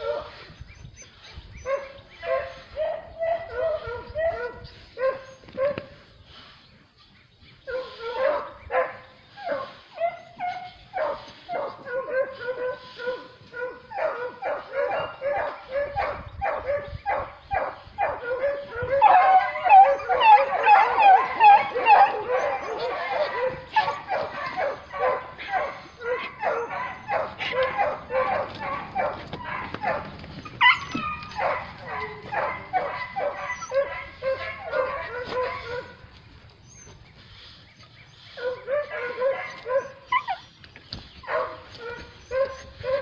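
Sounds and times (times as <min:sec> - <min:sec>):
dogs barking and yelping: 0:00.0 - 0:06.4, 0:07.0 - 0:43.0.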